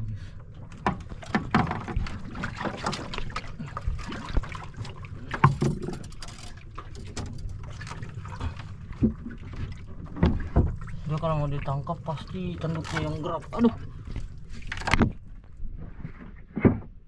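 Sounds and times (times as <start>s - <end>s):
steady low rumble: 0.0s - 2.6s, 3.2s - 16.1s.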